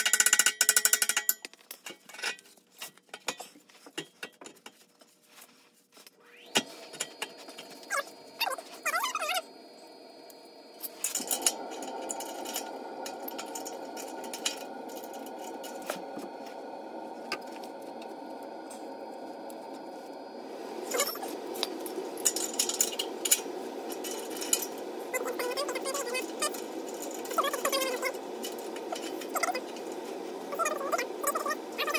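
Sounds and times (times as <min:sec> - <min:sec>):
steady background noise: 0:06.2 - 0:31.9.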